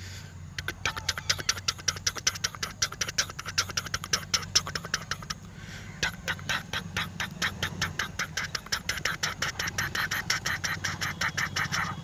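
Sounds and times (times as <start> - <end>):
steady low hum: 0.0 - 12.0
toy tractor ticking: 0.6 - 12.0.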